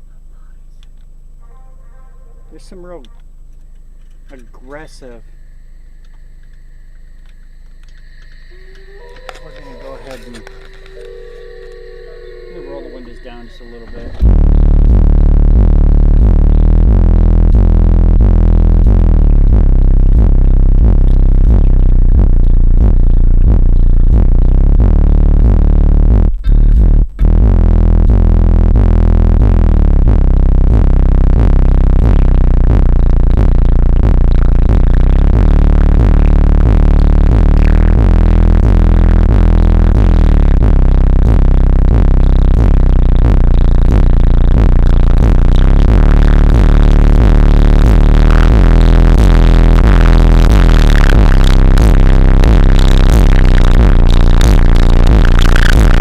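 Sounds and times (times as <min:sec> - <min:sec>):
loud bass-heavy electronic music: 0:04.0 - 0:56.0.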